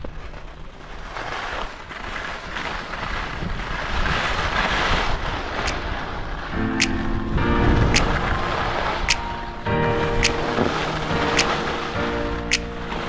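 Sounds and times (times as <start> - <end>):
skis scraping over snow: 0.0 - 13.0.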